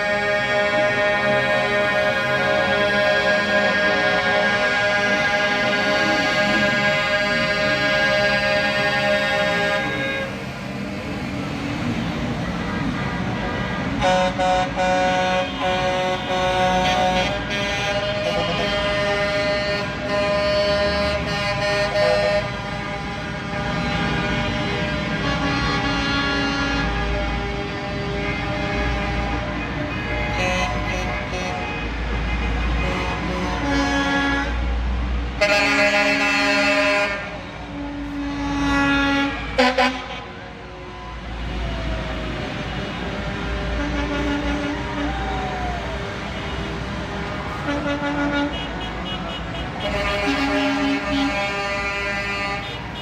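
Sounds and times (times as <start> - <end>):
truck air horns honking: 0.0 - 53.0
truck engines rumbling: 0.0 - 53.0.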